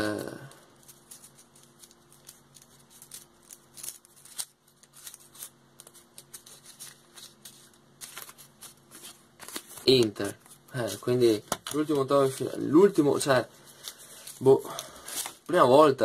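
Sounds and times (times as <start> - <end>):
paper crinkling and rustling: 0.0 - 15.9.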